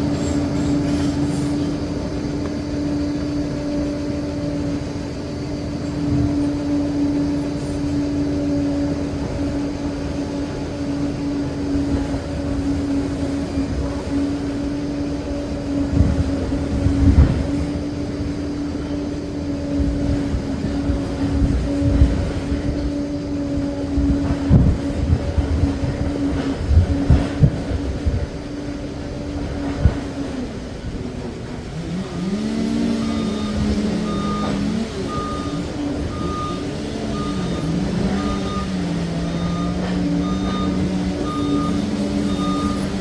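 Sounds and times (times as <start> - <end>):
dozer engine whining and rumbling: 0.0 - 43.0
heavy low engine surges: 0.0 - 43.0.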